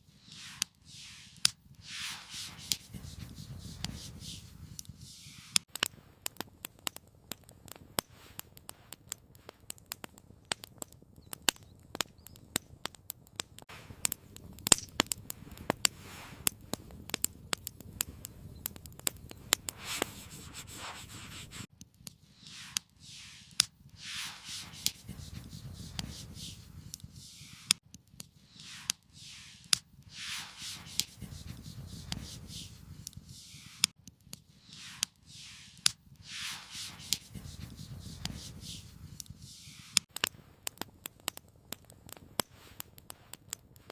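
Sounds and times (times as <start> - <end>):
fire hissing: 0.0 - 7.0, 13.6 - 43.9
campfire crackling: 0.1 - 43.9.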